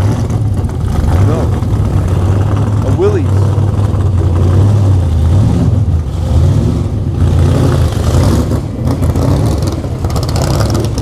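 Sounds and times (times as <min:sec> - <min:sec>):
loud car engine rumbling: 0:00.0 - 0:11.0.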